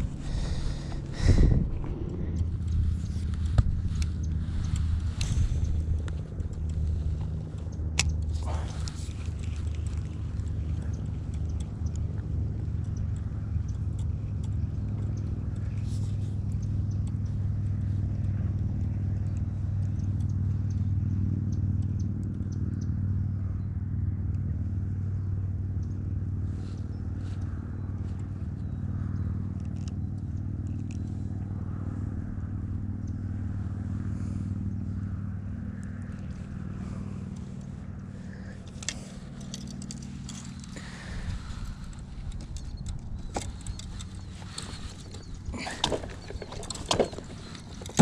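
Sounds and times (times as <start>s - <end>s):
light clicks and ticks: 0.0s - 23.6s, 25.6s - 48.0s
low engine-like hum: 0.0s - 48.0s.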